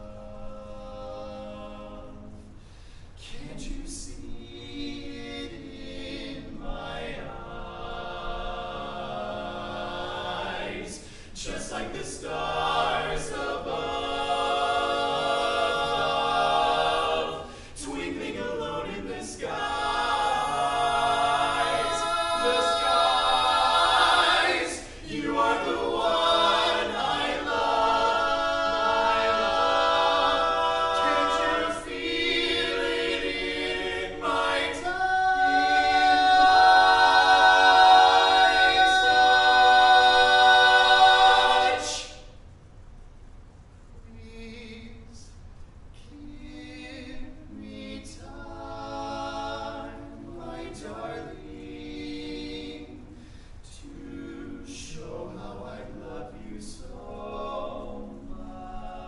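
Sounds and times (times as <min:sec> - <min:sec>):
male quartet singing a cappella: 0:00.0 - 0:02.5, 0:03.2 - 0:42.3, 0:44.0 - 0:45.3, 0:46.0 - 0:59.0.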